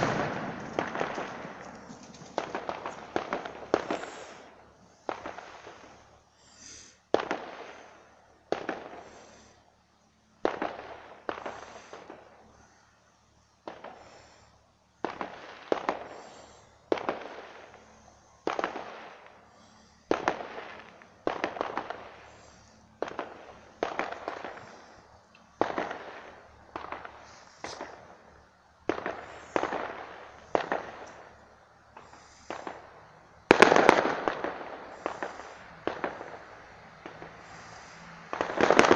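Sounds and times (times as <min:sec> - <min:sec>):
sharp bangs with crackle: 0:00.0 - 0:09.7, 0:10.3 - 0:12.8, 0:13.6 - 0:38.9.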